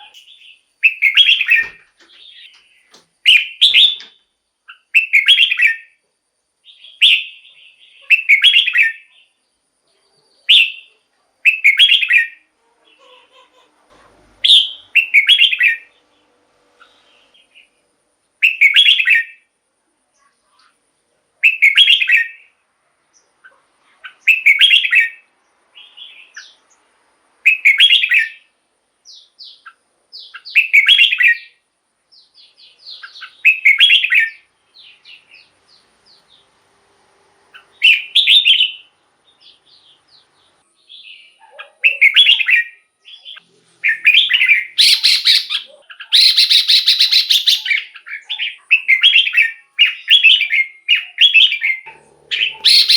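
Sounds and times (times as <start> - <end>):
soft bird chirps: 0.0 - 6.0, 6.6 - 17.8, 21.4 - 36.6, 37.4 - 52.9.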